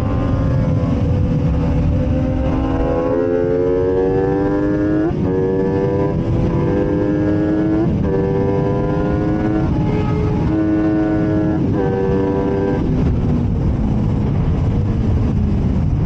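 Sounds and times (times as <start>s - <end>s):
motorcycle engine accelerating: 0.0s - 16.0s
wind rush on microphone: 0.0s - 16.0s.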